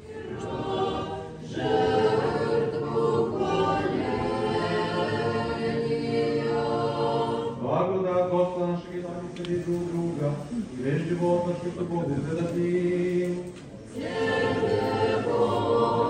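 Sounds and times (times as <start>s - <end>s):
choir singing a cappella: 0.0s - 7.7s, 10.8s - 16.0s.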